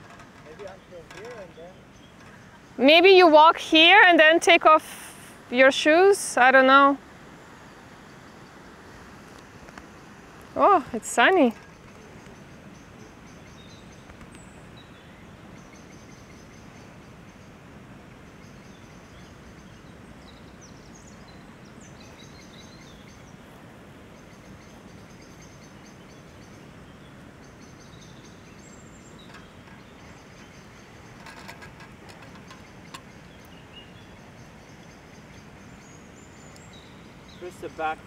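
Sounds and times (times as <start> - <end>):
birds chirping: 0.0 - 38.0
low background hiss: 0.0 - 38.0.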